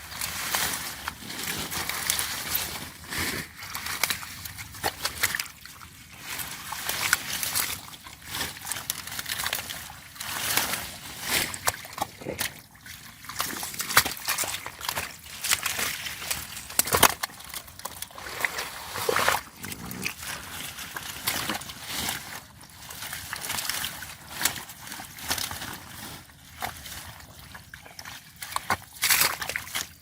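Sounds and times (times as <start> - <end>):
shallow water sloshing and splashing: 0.0 - 30.0.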